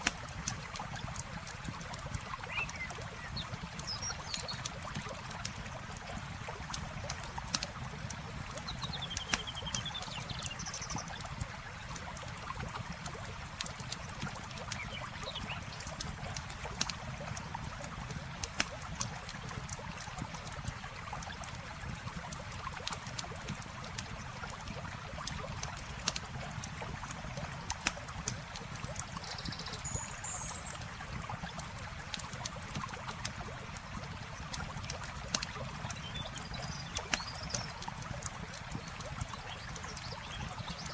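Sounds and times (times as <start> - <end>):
campfire crackling and popping: 0.0 - 29.9, 30.8 - 40.9
trickling river water: 0.0 - 40.9.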